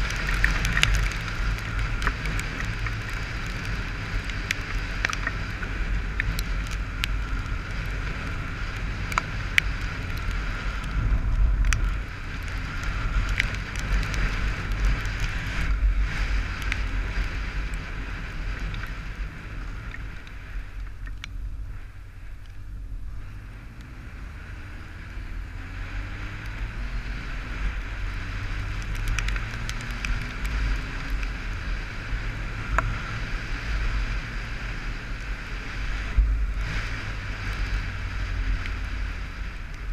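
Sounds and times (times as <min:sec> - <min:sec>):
raindrops ticking on camera: 0:00.0 - 0:22.7, 0:23.6 - 0:39.9.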